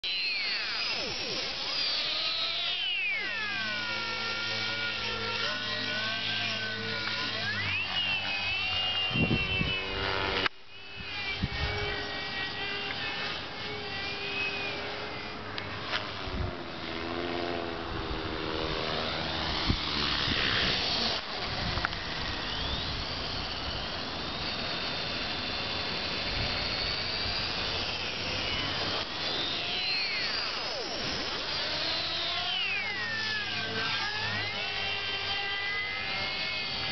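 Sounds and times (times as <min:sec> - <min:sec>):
rc helicopter motor whine: 0:00.0 - 0:36.9.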